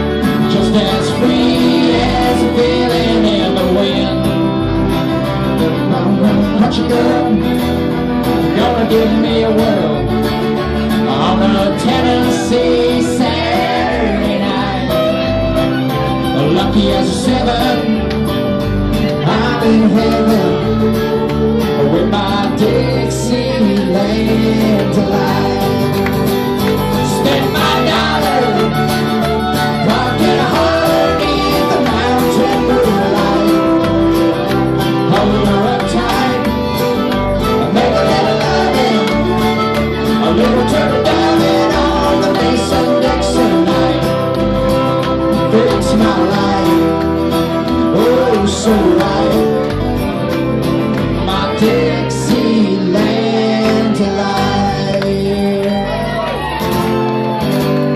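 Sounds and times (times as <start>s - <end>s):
acoustic guitars strumming: 0.0s - 57.9s.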